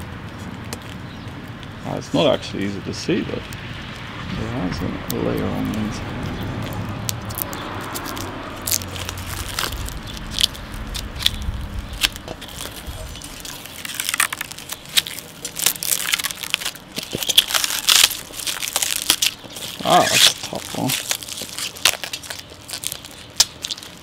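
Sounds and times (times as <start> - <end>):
plastic film crackling: 4.6 - 24.0.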